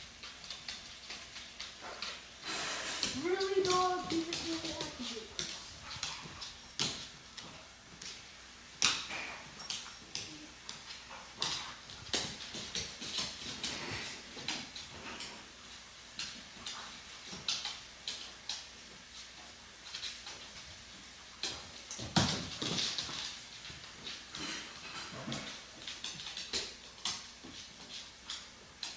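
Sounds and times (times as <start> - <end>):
dogs scuffling: 0.0 - 28.9.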